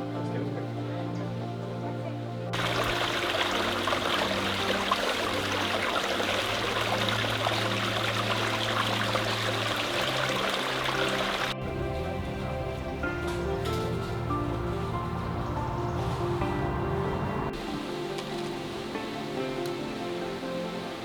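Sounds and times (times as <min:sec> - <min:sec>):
quiet background music: 0:00.0 - 0:21.0
rushing water hiss: 0:02.6 - 0:21.0.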